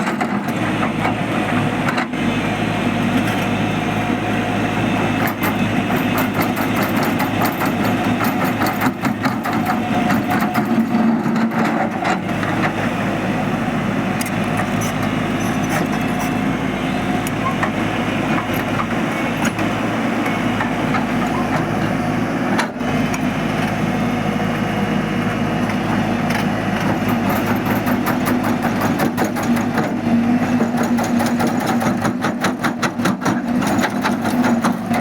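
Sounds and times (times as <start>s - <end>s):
excavator engine running: 0.0s - 35.0s.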